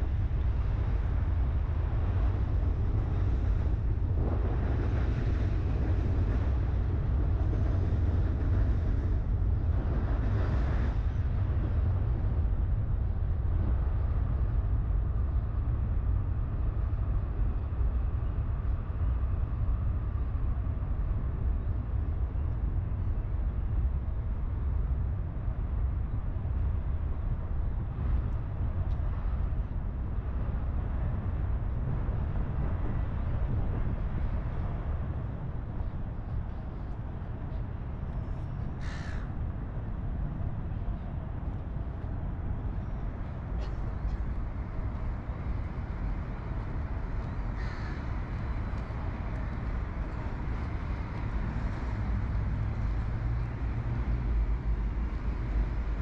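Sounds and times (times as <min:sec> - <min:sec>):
low city rumble: 0:00.0 - 0:56.0.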